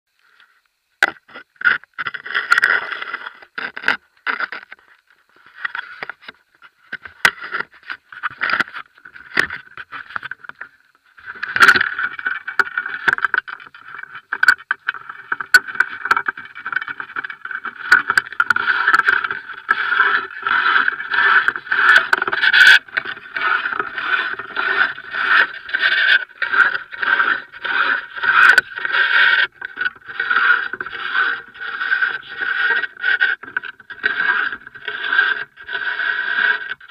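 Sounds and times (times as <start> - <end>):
telescopic pole scraping and clicking: 0.4 - 36.9.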